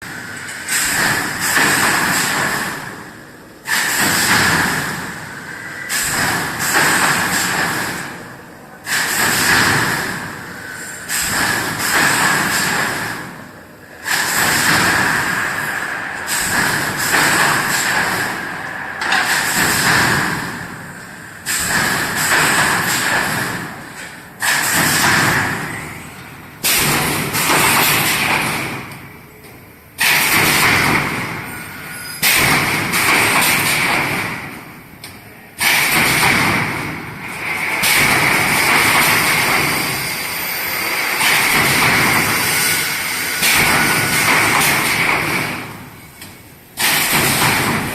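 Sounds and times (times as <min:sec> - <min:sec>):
welding machine running: 0:00.0 - 0:47.9.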